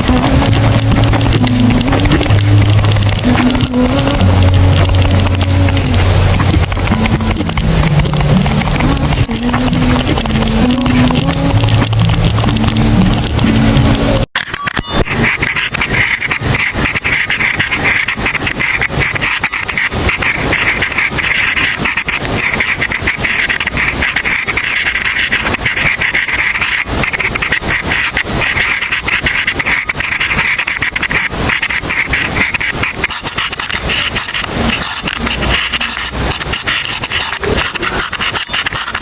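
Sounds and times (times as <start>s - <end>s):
pen scratching on paper: 0.0s - 14.3s, 15.0s - 39.0s.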